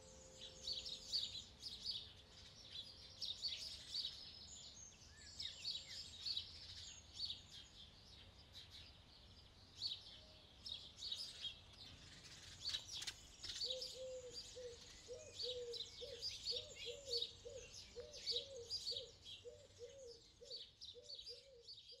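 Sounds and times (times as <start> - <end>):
birds chirping and trilling: 0.0 - 22.0.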